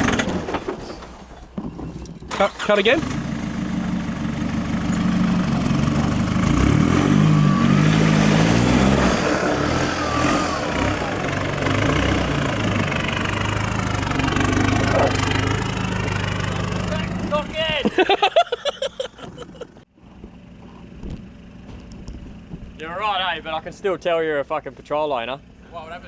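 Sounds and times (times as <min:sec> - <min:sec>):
vehicle engine revving uphill: 0:00.0 - 0:26.0.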